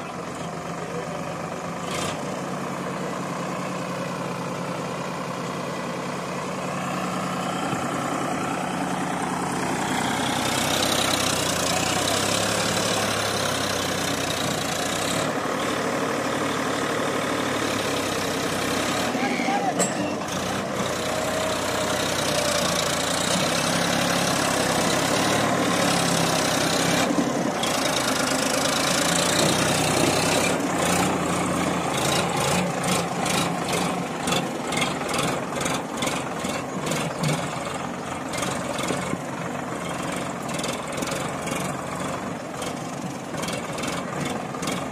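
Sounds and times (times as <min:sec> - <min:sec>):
tractor diesel engine running hard: 0:00.0 - 0:44.9.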